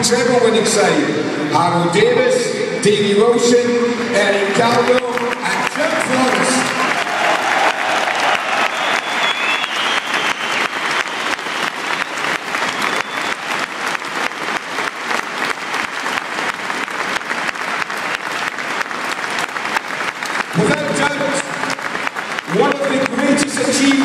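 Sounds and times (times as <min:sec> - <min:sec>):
stadium crowd applauding: 0:03.9 - 0:24.0
close hand claps: 0:04.4 - 0:24.0.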